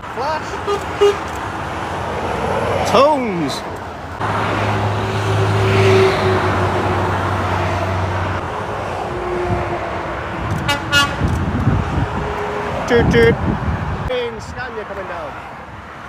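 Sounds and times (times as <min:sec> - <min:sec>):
motorway traffic passing: 0:00.0 - 0:16.0.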